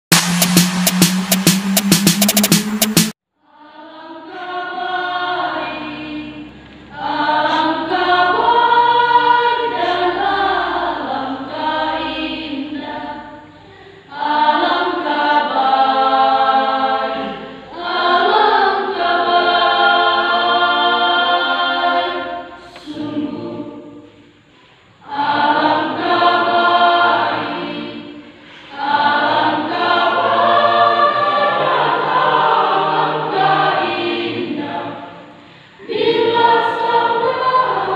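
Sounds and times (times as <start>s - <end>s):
women's choir singing: 3.4s - 37.9s.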